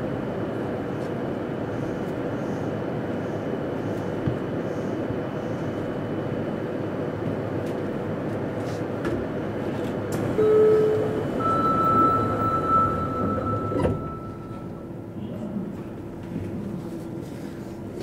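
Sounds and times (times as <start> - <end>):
electric train inverter whine: 0.0 - 18.0
train rail rumble: 0.0 - 18.0.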